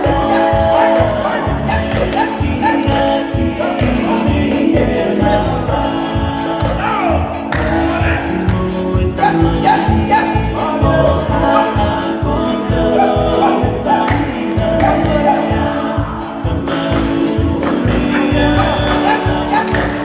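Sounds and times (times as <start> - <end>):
fast drum beat: 0.0 - 20.0
group singing in harmony: 0.0 - 20.0.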